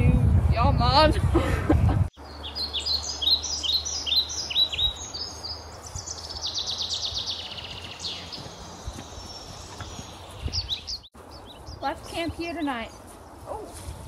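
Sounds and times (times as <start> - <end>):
songbird chirping and trilling: 2.2 - 13.8.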